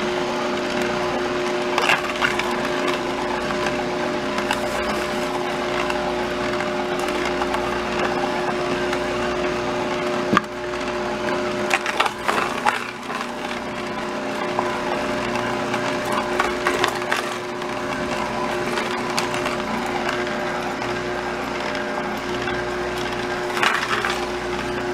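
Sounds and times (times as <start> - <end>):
fruit crunching in juicer: 0.0 - 24.9
juicer motor hum: 0.0 - 24.9.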